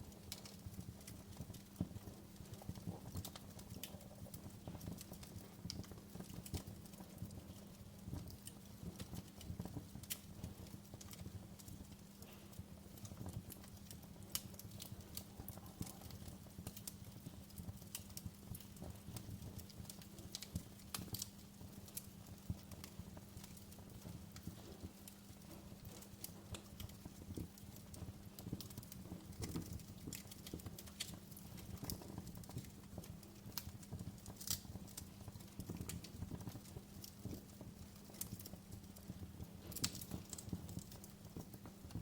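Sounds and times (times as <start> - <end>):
fire pops and snaps: 0.0 - 42.0
wood fire crackling: 0.0 - 42.0.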